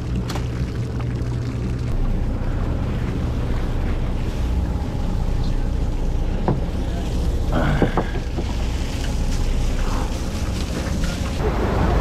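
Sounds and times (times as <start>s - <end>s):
boat engine running: 0.0s - 12.0s
water noise: 0.0s - 12.0s
wind: 0.0s - 12.0s.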